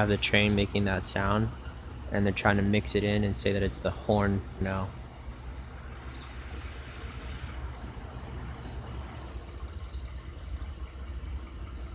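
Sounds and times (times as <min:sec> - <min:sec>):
vehicle engine rumbling: 0:00.0 - 0:11.9.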